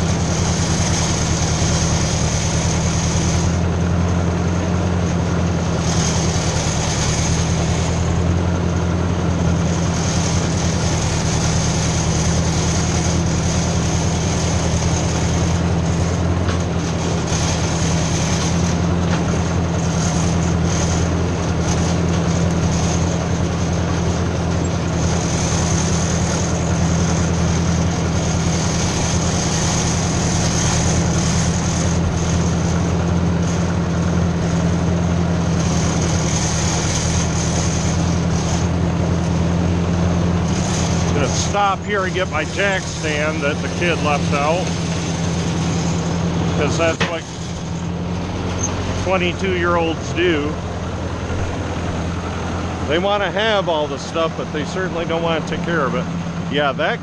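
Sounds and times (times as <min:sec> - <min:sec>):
tractor engine running steadily: 0:00.0 - 0:57.0.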